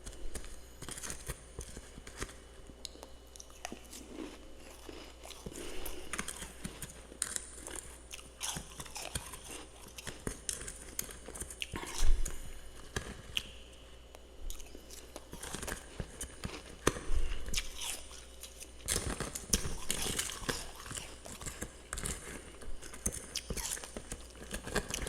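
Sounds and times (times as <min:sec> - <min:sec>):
crunchy chewing of frost: 0:00.0 - 0:13.8, 0:14.5 - 0:25.0.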